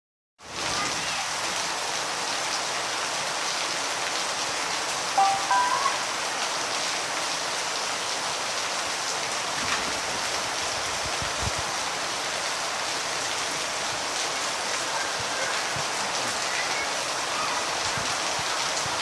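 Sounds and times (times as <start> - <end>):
rain falling: 0.4 - 19.0.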